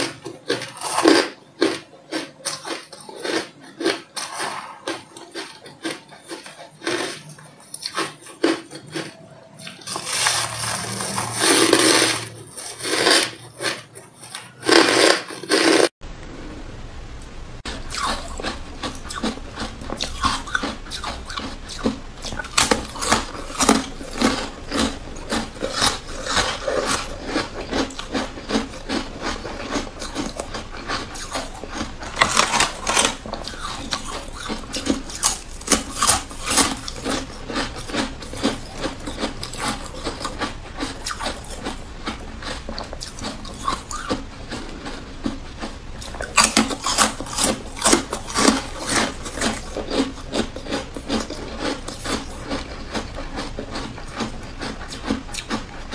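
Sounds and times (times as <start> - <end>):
ice crunching while chewed: 0.0 - 15.9, 17.7 - 55.9.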